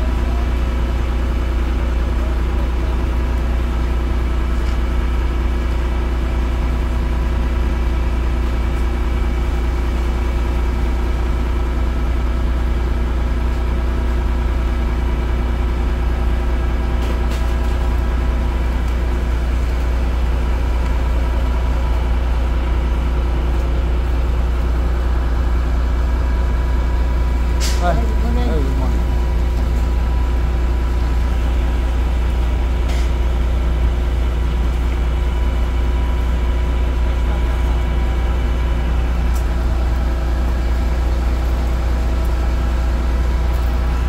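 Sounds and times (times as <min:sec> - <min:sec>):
engine droning steadily: 0:00.0 - 0:44.0.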